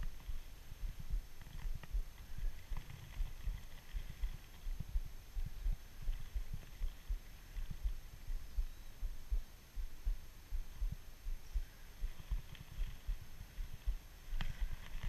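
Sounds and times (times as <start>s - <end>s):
faint hiss: 0.0s - 15.0s
low thumping rumble: 0.0s - 15.0s.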